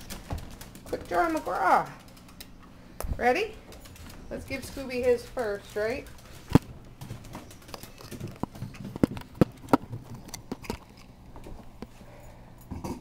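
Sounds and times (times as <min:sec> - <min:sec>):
dry kibble clicking and rattling: 0:00.0 - 0:02.6, 0:03.6 - 0:11.6.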